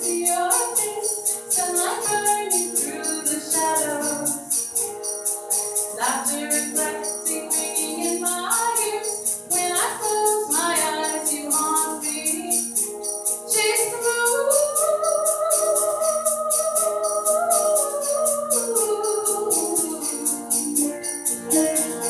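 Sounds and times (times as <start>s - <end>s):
high jingling beat: 0.0s - 22.0s
person singing: 0.0s - 22.0s
sitar drone: 0.0s - 22.0s.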